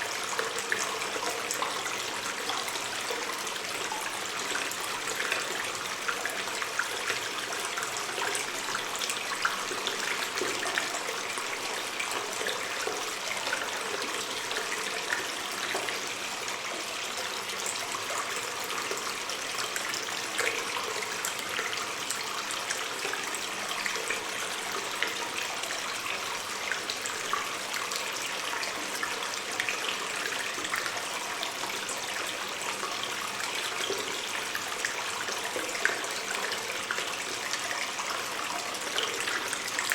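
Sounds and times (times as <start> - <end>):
stream of water running: 0.0 - 39.9
water splashes and drips: 0.0 - 39.9.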